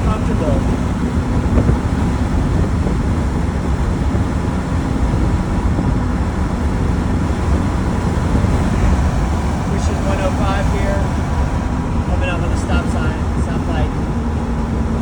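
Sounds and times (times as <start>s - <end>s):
engine and road drone: 0.0s - 15.0s
wind rushing: 0.0s - 15.0s.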